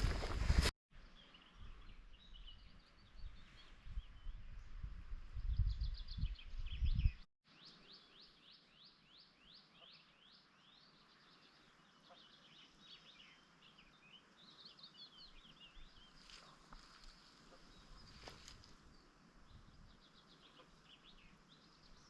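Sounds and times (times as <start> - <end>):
songbird song: 0.0 - 22.0.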